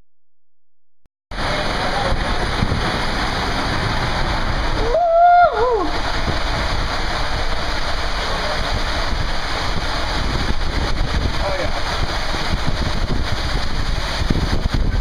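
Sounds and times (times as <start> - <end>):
water rushing through slide tube: 1.3 - 15.0.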